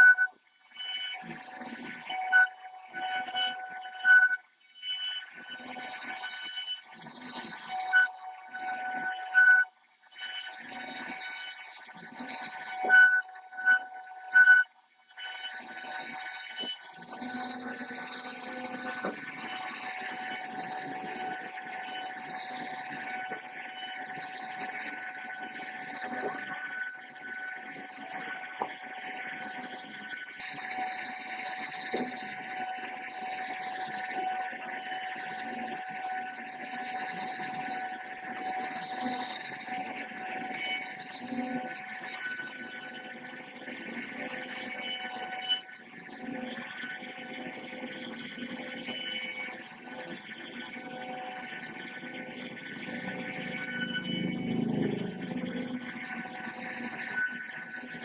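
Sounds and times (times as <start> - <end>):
cnc router spindle whining: 0.0 - 58.0.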